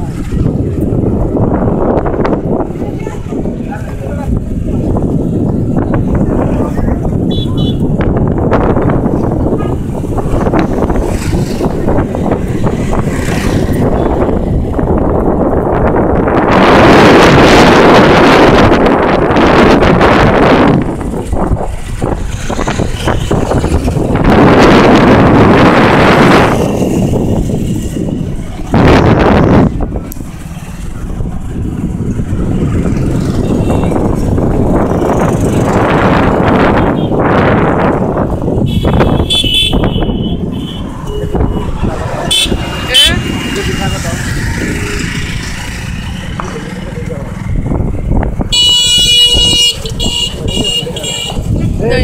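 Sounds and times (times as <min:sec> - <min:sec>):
low road rumble: 0:00.0 - 0:52.0
motorcycle passing: 0:00.0 - 0:52.0
passing traffic: 0:00.0 - 0:52.0
wind buffeting microphone: 0:00.0 - 0:52.0.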